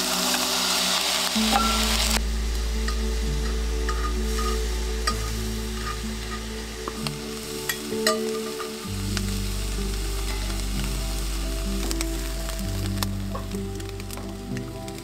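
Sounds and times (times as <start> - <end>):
background music low notes: 0.0 - 15.0
food sizzling in hot oil: 0.0 - 15.0.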